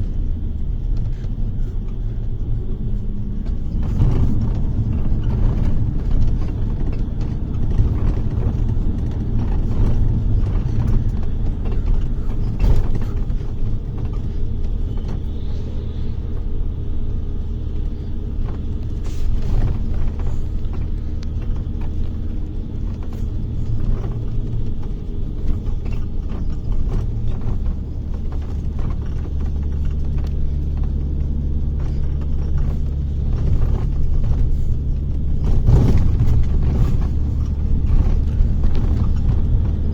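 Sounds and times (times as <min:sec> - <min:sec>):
bus engine drone: 0:00.0 - 0:39.9
rattles and knocks: 0:00.1 - 0:39.9.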